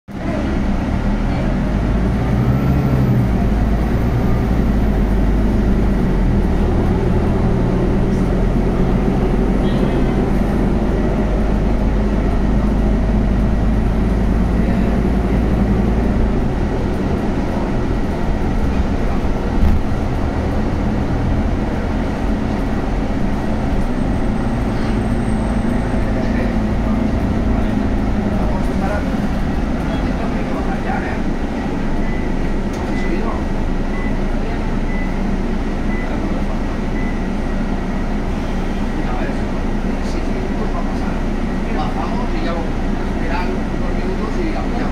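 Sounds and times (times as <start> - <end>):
bus engine hum: 0.1 - 44.9
road noise: 0.1 - 44.9.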